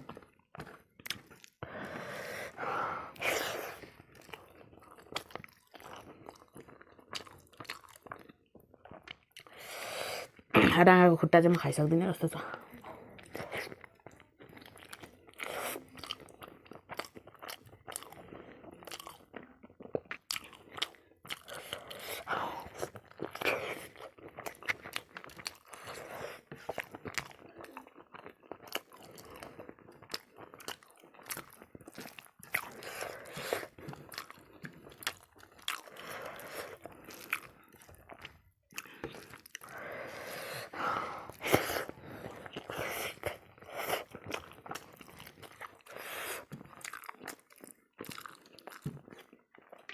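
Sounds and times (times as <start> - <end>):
wet chewing and crunching: 0.0 - 10.6, 11.5 - 49.9.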